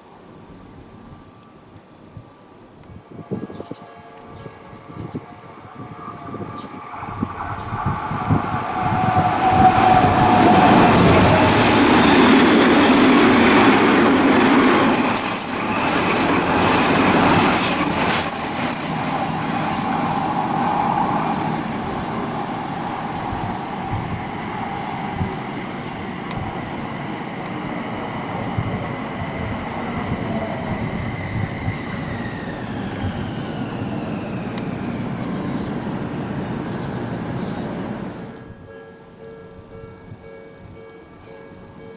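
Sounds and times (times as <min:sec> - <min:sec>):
electric train running past: 0:00.0 - 0:41.9
train wheel squeal: 0:03.3 - 0:41.9.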